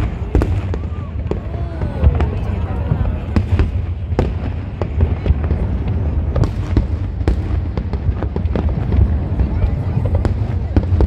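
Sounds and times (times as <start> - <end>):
firework crackles: 0.0 - 11.0
firework shells bursting with bangs: 0.0 - 11.0.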